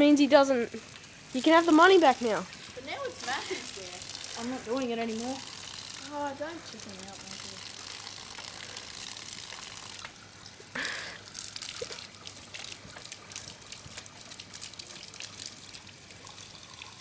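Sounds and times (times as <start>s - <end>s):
water splashing from a hose: 0.0s - 17.0s.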